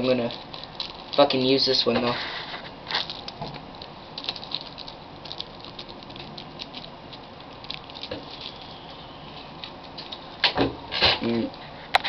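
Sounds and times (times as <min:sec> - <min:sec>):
rolling papers crackling: 0:00.0 - 0:11.9.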